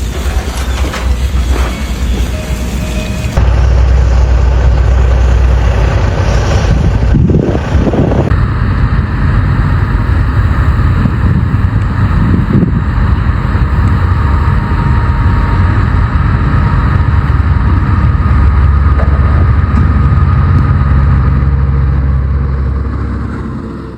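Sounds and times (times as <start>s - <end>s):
vehicle engine and road rumble: 3.3s - 23.9s.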